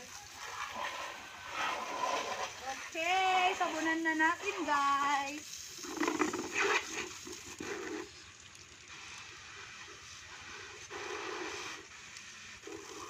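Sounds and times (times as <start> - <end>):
hose spray hissing onto concrete: 0.0 - 13.0.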